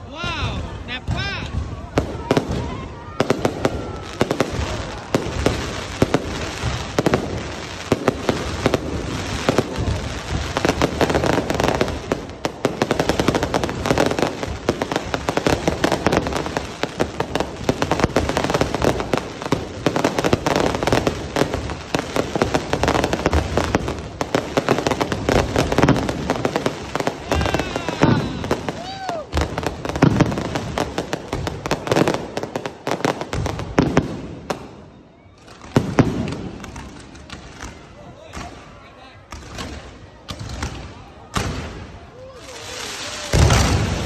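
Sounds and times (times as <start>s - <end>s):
sharp firework reports: 0.0s - 34.9s, 39.4s - 44.0s
fireworks bangs and crackling: 0.0s - 44.0s.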